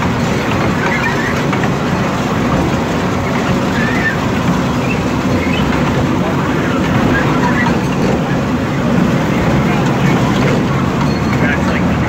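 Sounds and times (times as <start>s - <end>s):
kiddie train rumbling on track: 0.0s - 12.0s.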